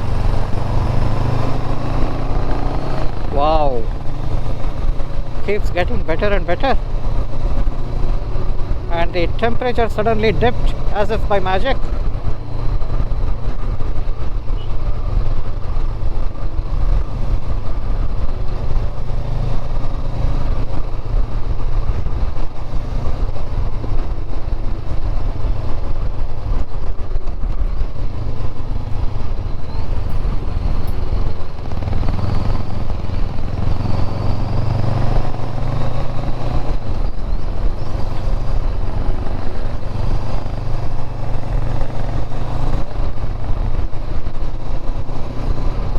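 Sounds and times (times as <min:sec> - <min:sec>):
motorcycle engine running: 0:00.0 - 0:45.9
road and wind noise: 0:00.0 - 0:45.9.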